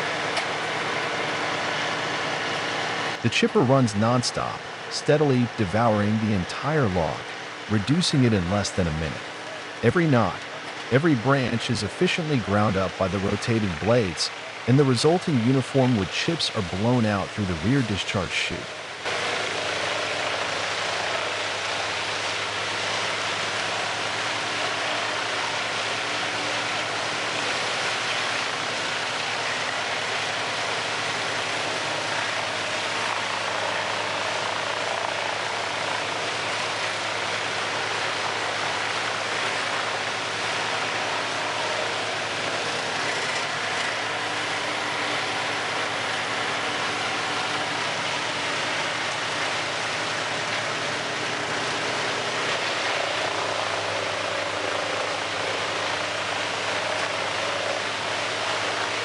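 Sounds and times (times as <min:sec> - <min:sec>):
wood chipper grinding log: 0:00.0 - 0:59.0.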